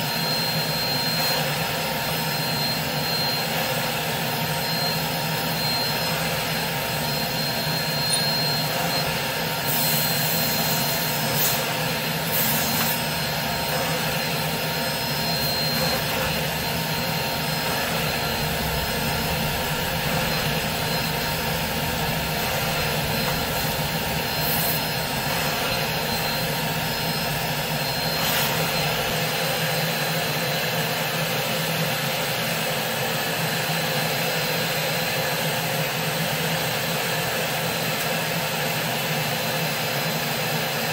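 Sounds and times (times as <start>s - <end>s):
vacuum motor whining: 0.0s - 40.9s.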